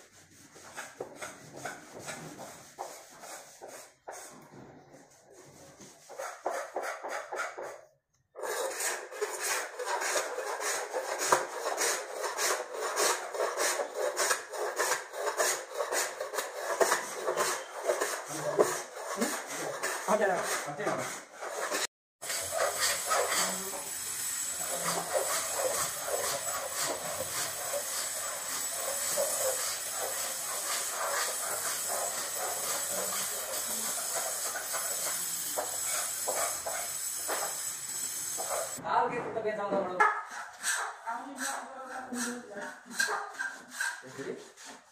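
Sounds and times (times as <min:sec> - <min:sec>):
sandpaper rubbing on wood: 0:00.0 - 0:04.4, 0:05.0 - 0:07.8, 0:08.4 - 0:38.8, 0:40.3 - 0:44.9.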